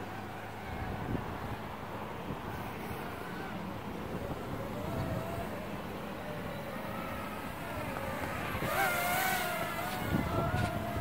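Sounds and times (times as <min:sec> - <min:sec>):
drone propellers whining: 0:00.0 - 0:11.0
wind rumbling on microphone: 0:00.0 - 0:11.0.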